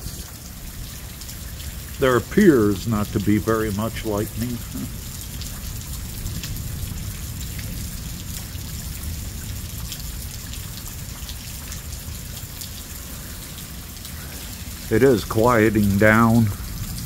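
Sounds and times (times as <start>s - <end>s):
rain falling: 0.0s - 17.0s
water drips: 0.0s - 17.0s.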